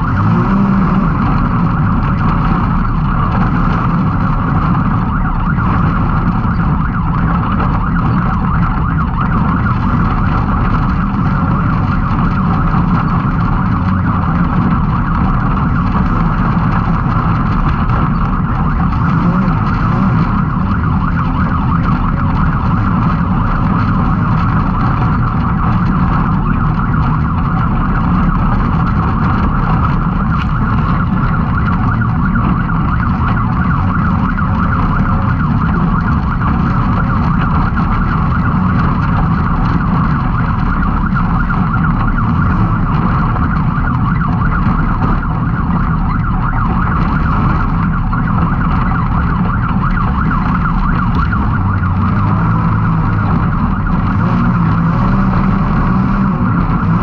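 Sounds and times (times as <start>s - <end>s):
engine running hard with whine: 0.0s - 57.0s.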